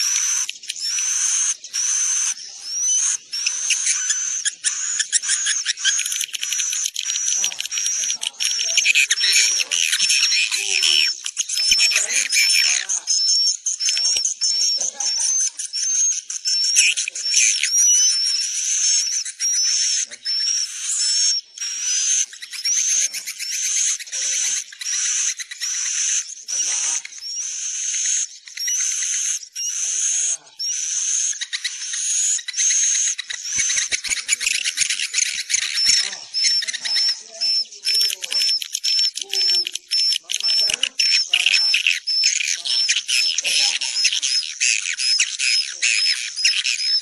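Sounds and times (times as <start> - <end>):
swiftlets twittering: 0.0 - 47.0.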